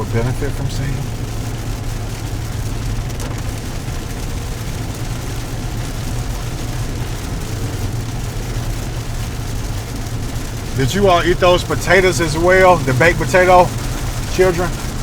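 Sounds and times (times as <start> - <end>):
engine and road drone: 0.0 - 15.0.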